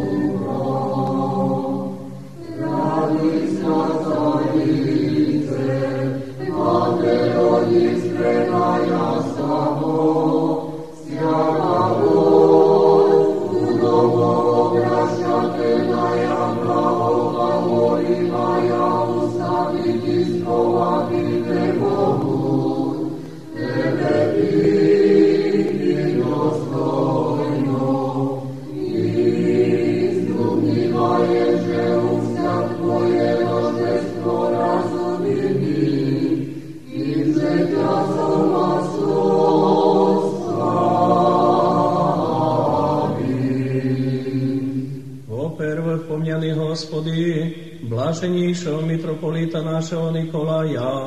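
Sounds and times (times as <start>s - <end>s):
unaccompanied choir chanting: 0.0s - 45.9s.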